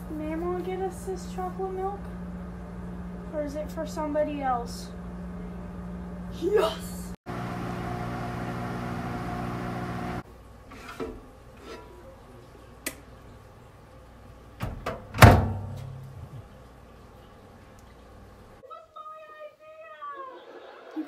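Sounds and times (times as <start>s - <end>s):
microwave oven humming: 0.0s - 10.6s, 11.3s - 18.6s.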